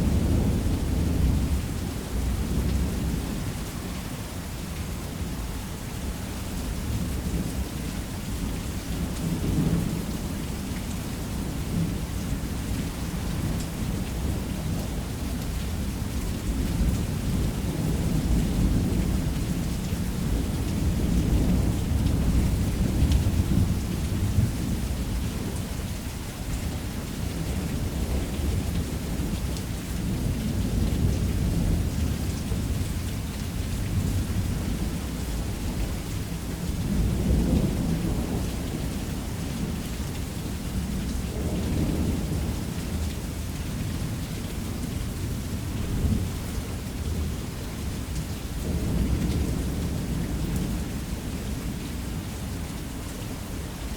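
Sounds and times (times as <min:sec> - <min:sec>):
heavy rain on a roof: 0:00.0 - 0:53.9.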